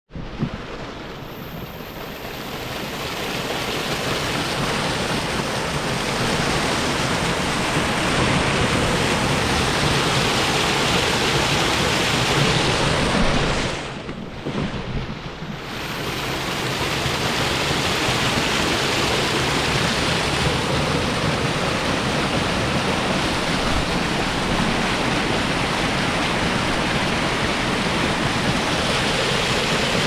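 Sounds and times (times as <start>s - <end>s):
waterfall rushing: 1.0s - 14.0s, 15.5s - 30.0s.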